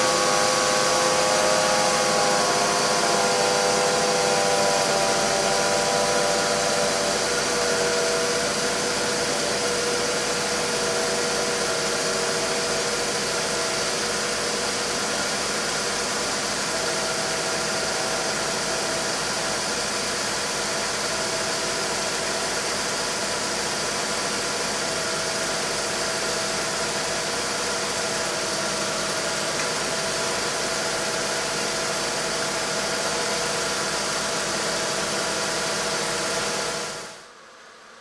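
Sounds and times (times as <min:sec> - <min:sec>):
car engine idling: 0:00.1 - 0:37.0.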